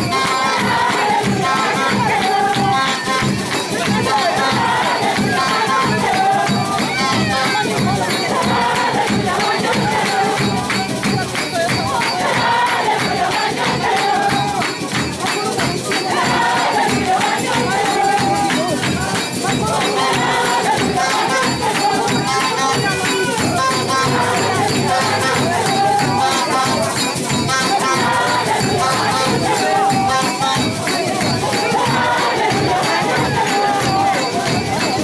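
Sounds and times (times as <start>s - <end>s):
women singing a hymn: 0.0s - 11.0s, 11.6s - 35.0s
shaken hand percussion: 0.0s - 35.0s.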